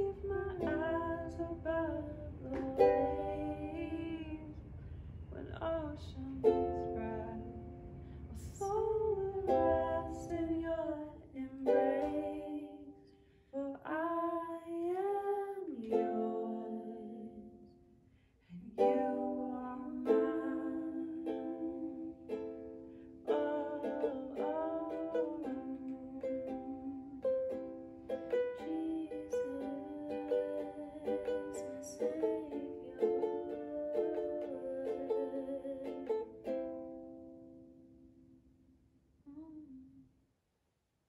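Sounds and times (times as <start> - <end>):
woman singing slow melody: 0.0 - 4.7, 5.3 - 13.0, 13.6 - 17.8, 18.5 - 37.0, 39.3 - 40.1
ukulele strumming: 0.0 - 13.0, 14.6 - 18.0, 18.6 - 38.4.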